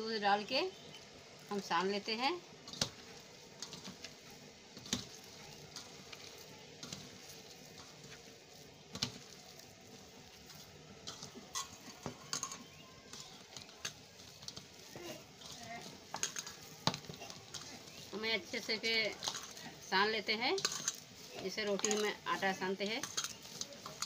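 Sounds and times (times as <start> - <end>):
hands kneading dough squishing: 1.4 - 24.0.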